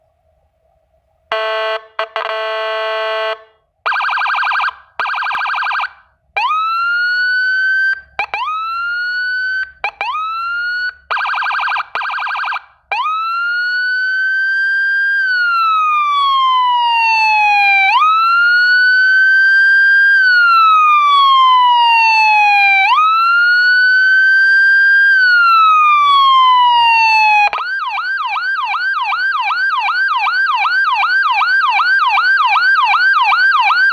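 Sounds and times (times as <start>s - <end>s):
electronic siren: 1.3s - 33.9s.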